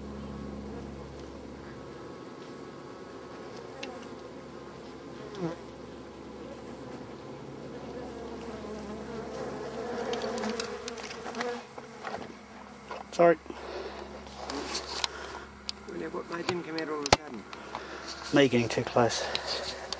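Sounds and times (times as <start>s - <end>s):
bees buzzing: 0.0s - 19.9s.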